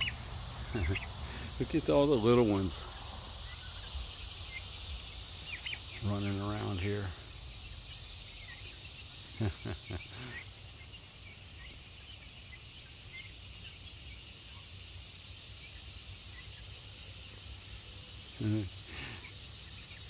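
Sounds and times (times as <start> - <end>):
chicks peeping: 0.0 - 20.0
insects droning: 0.0 - 20.0.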